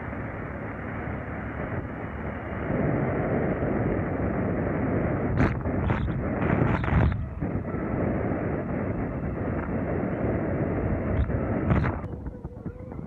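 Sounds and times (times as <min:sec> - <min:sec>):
vehicle road and engine noise: 0:00.0 - 0:13.0
wind buffeting microphone: 0:00.0 - 0:13.0.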